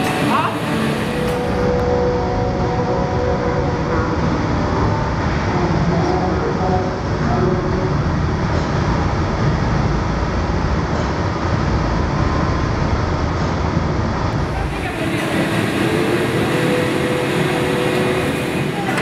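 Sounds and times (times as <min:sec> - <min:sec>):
gas furnace roar: 0:00.0 - 0:19.0.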